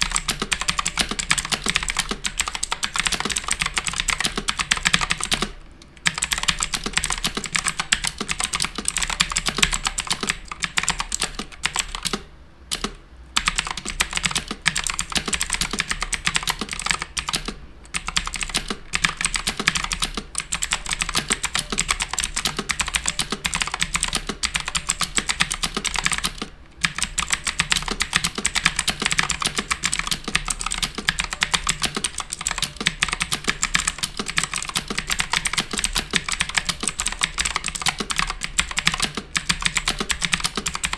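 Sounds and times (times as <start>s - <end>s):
fast typing on clicky keyboard: 0.0s - 40.9s.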